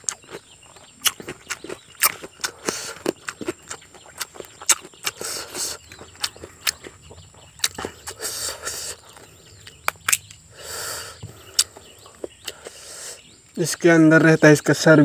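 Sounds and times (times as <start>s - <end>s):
person chewing food: 0.0s - 13.2s.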